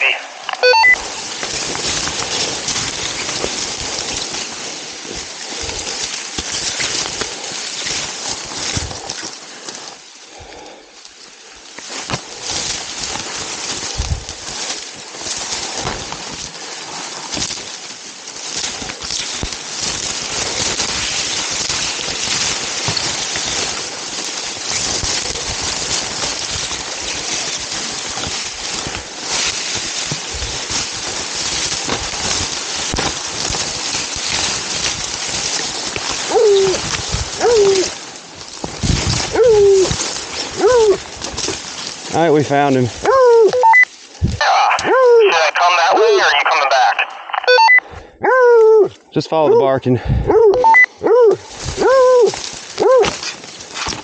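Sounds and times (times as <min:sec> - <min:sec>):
rustle and crackle of marsh stalks: 0:00.0 - 0:54.0.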